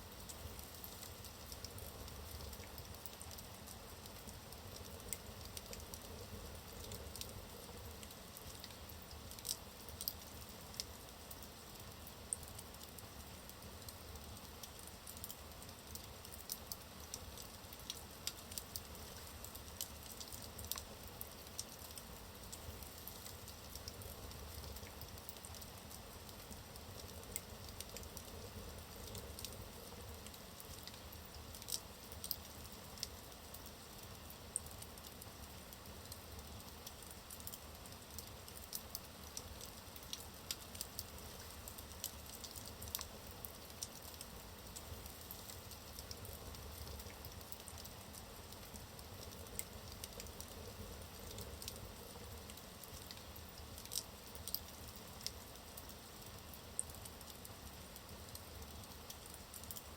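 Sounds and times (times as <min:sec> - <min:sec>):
fire crackling and popping: 0:00.1 - 0:59.9.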